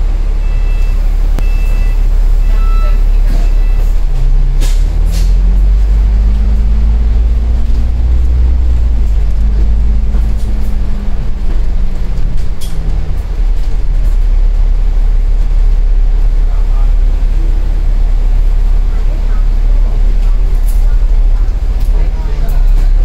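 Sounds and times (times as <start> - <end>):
bus diesel engine rumbling: 0.0 - 23.0.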